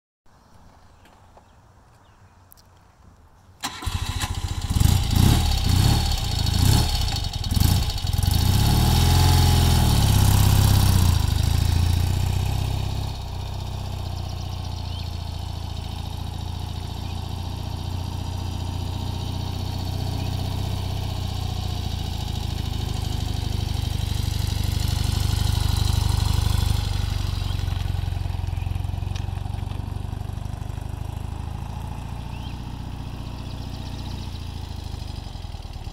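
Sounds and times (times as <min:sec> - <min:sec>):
motorcycle engine starting and revving: 0:03.6 - 0:35.9.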